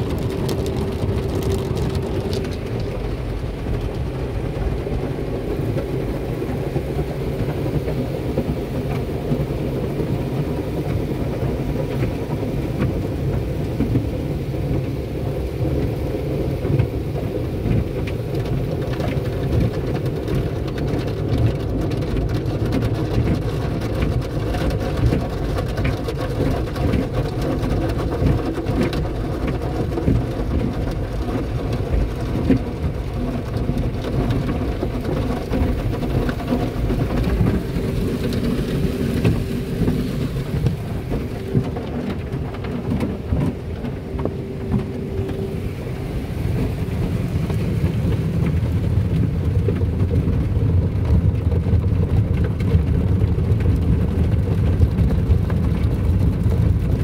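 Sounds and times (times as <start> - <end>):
steady machinery hum: 0.0 - 22.0, 26.4 - 56.8
water spray pattering on car: 0.0 - 57.0.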